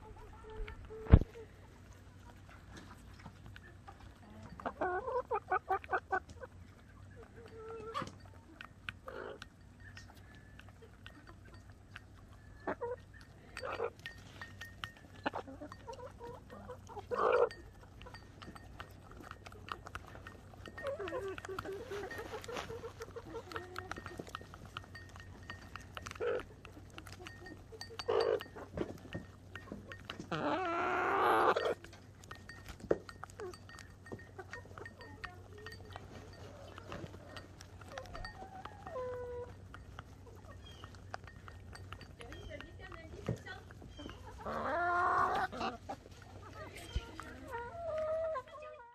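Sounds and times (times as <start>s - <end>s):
chickens clucking: 0.0s - 48.9s
beaks tapping against bowl: 7.1s - 47.7s.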